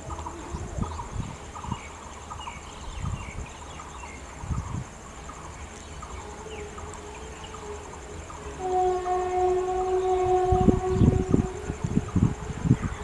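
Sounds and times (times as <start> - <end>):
birds chirping: 0.0 - 13.0
high pulsing insect drone: 0.0 - 13.0.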